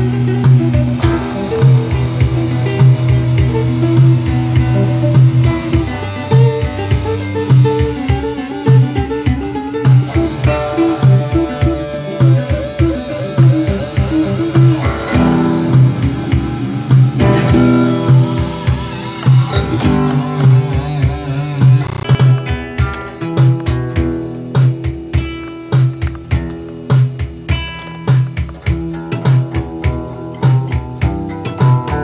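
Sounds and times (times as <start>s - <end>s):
classical and electric guitar music: 0.0s - 32.0s.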